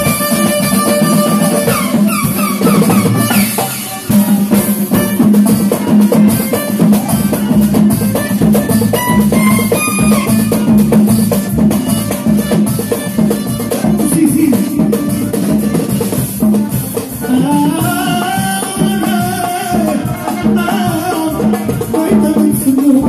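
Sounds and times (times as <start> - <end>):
driving drum rhythm: 0.0 - 23.0
keyboard: 0.0 - 23.0.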